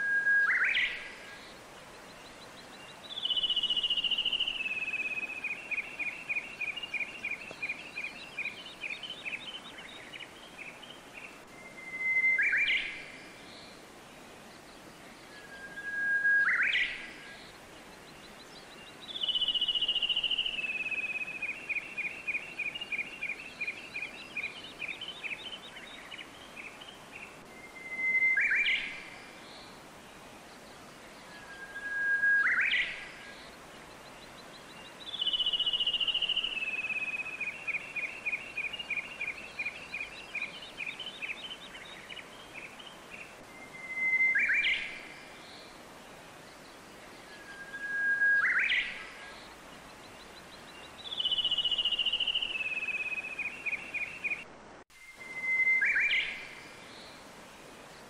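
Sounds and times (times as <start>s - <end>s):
faint steady hiss: 0.0s - 58.0s
songbird singing: 0.0s - 58.0s.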